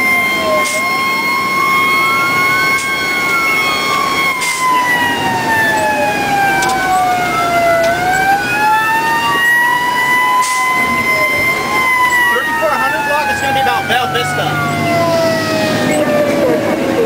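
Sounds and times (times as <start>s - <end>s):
emergency sirens wailing: 0.0s - 17.0s.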